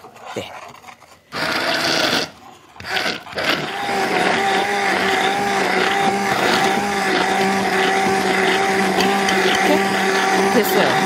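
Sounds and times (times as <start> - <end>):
hand blender motor hum: 1.3 - 11.0.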